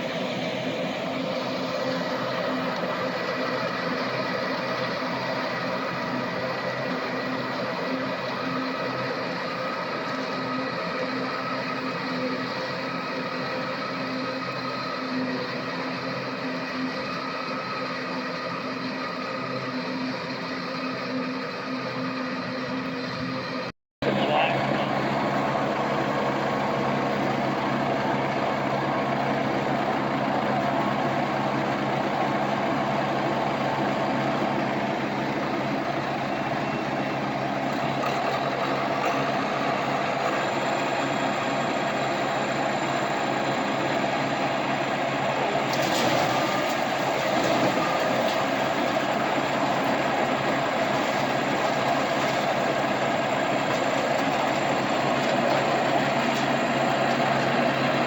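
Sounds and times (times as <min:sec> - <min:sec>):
farm machinery engine running: 0:00.0 - 0:58.0.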